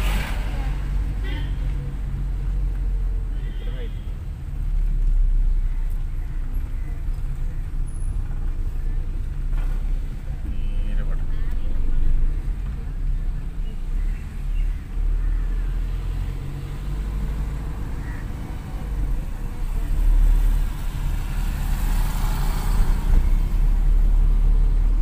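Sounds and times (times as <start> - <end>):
vehicle rumble from inside: 0.0 - 25.0.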